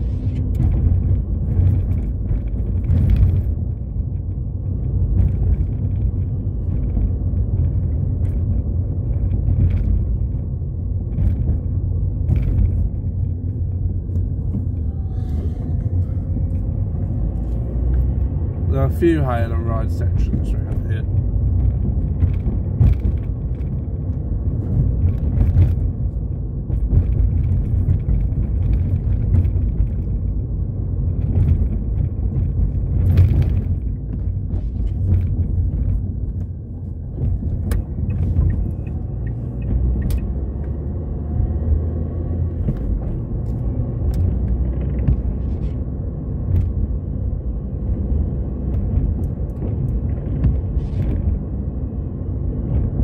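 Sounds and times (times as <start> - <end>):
engine and tyre rumble: 0.0 - 53.0.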